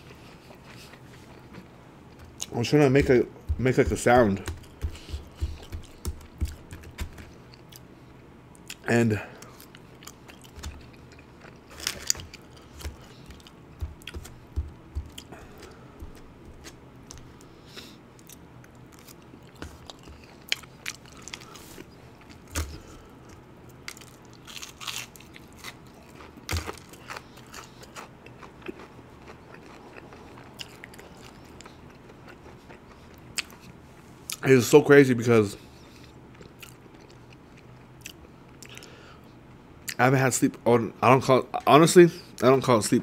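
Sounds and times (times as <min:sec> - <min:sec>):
person chewing and crunching food: 0:00.0 - 0:07.9, 0:08.6 - 0:08.8, 0:09.4 - 0:34.4, 0:35.8 - 0:39.0.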